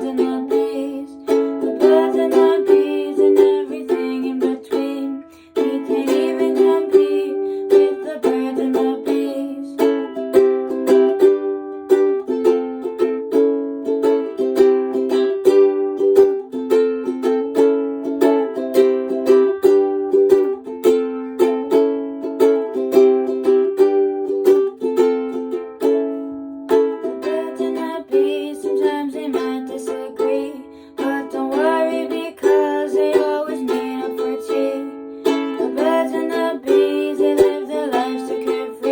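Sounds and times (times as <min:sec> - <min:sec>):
ukulele strumming chords: 0:00.0 - 0:38.9.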